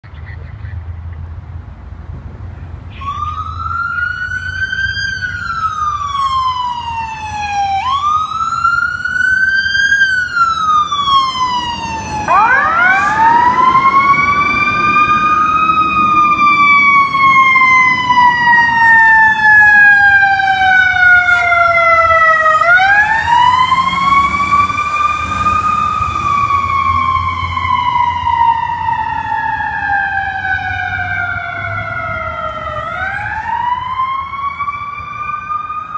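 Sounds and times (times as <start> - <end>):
fire engine siren wailing: 2.9 - 35.9.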